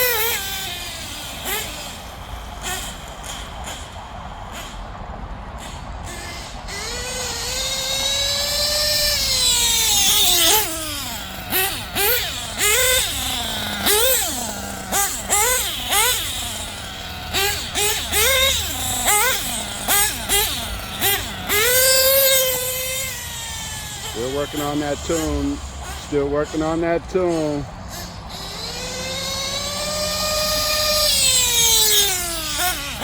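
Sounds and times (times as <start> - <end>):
small nitro engine revving: 0.0 - 33.0.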